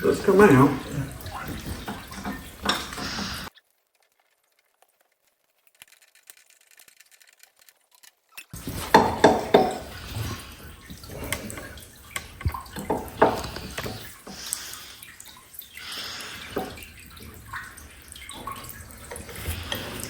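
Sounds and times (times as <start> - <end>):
liquid dripping: 0.0 - 5.0, 8.5 - 20.0.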